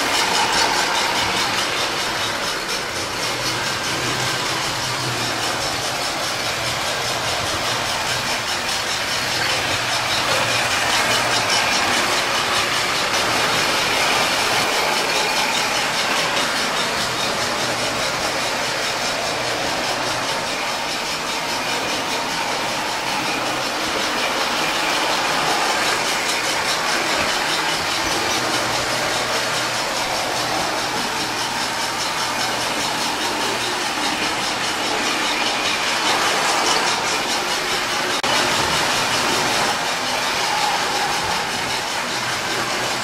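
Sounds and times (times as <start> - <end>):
toy train whirring on track: 0.0 - 43.0.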